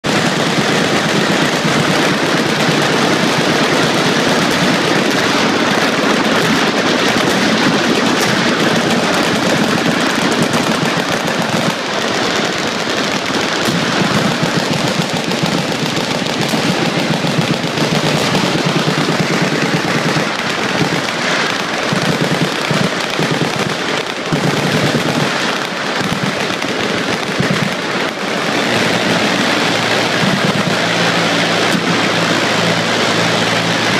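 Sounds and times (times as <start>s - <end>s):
machine guns firing: 0.0s - 33.9s.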